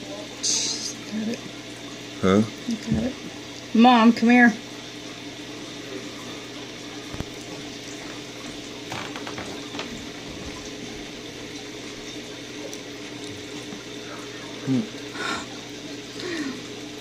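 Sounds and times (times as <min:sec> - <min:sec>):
low pump hum: 0:00.0 - 0:17.0
water trickling in aquarium: 0:00.0 - 0:17.0.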